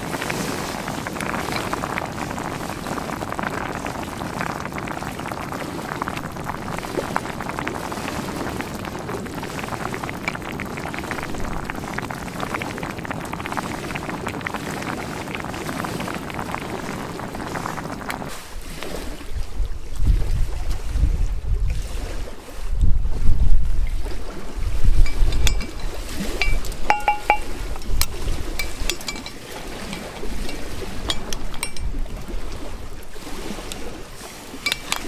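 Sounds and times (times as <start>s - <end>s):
broth bubbling and sizzling: 0.0s - 35.0s.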